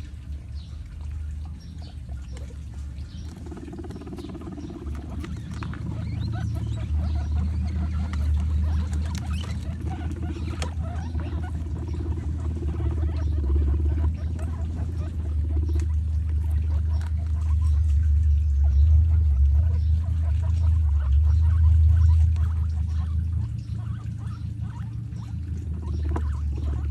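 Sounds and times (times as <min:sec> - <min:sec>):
guinea pigs chewing: 0:00.0 - 0:26.9
steady low hum: 0:00.0 - 0:26.9.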